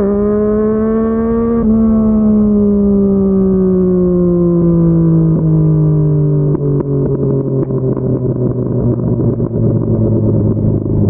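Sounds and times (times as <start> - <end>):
motorcycle engine while riding: 0.0 - 11.0.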